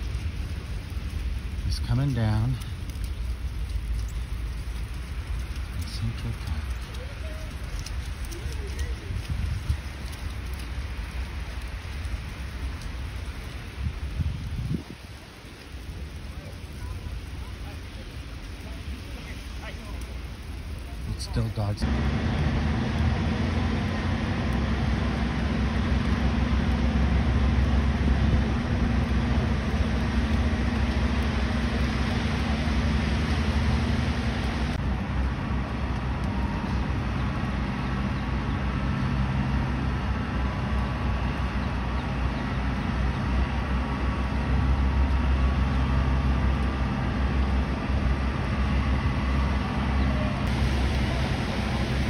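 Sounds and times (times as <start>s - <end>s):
city traffic rumble: 0.0s - 52.0s.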